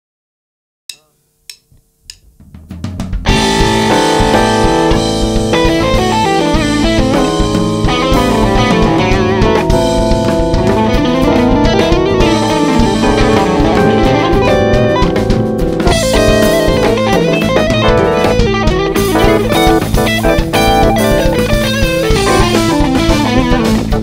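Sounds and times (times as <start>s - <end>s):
drum kit: 0.9s - 24.0s
electric bass: 1.1s - 24.0s
electric guitar: 3.2s - 24.0s
keyboard: 3.2s - 24.0s.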